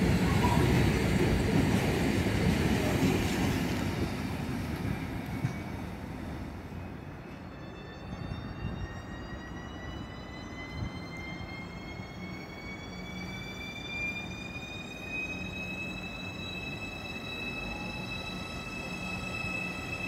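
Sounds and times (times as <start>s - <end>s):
low train rumble: 0.0s - 20.0s.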